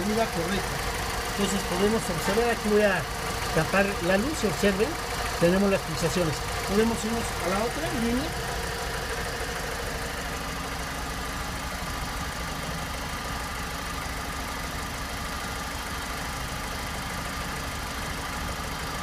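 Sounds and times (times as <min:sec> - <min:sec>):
van engine idling with misfire: 0:00.0 - 0:19.0.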